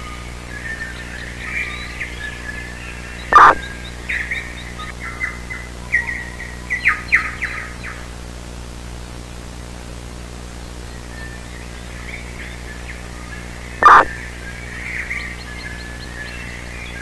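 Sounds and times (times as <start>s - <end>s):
birds chirping: 0.0s - 8.2s, 10.5s - 17.0s
low steady hum: 0.0s - 17.0s.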